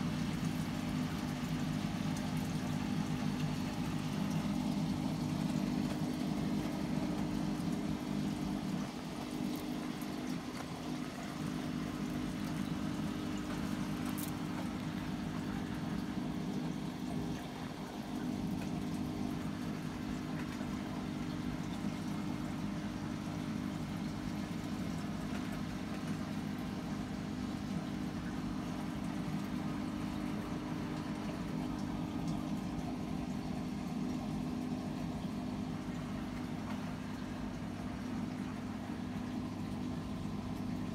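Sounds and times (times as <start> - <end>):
aquarium pump hum: 0.0 - 40.9
water flowing: 0.0 - 40.9.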